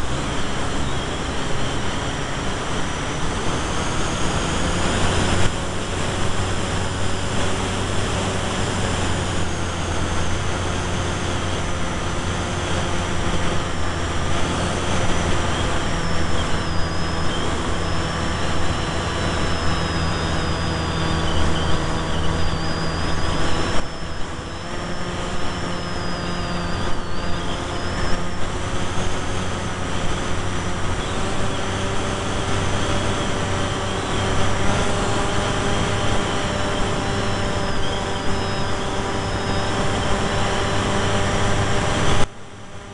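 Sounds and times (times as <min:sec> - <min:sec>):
electric motor and propeller droning: 0:00.0 - 0:42.9
high wavering whine: 0:00.0 - 0:42.9.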